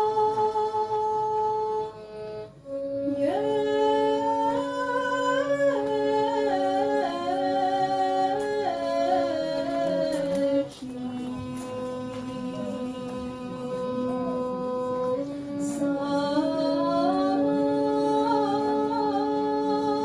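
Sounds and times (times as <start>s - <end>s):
slow melody: 0.0s - 20.0s.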